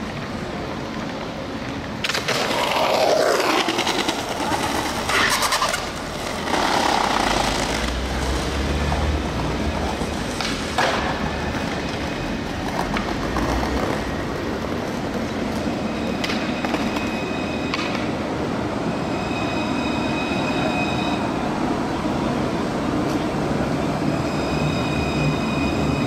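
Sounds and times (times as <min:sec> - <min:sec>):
street noise: 0:00.0 - 0:26.0
tram rumbling on track: 0:00.0 - 0:26.0.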